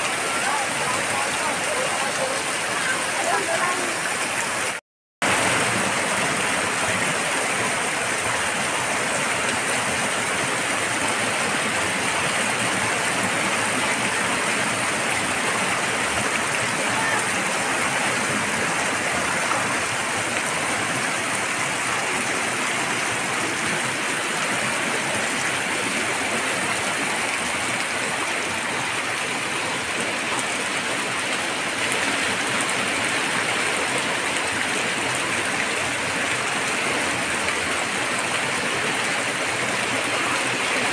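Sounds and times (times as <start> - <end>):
floodwater running: 0.0 - 40.9
heavy rain on a flooded street: 0.0 - 40.9.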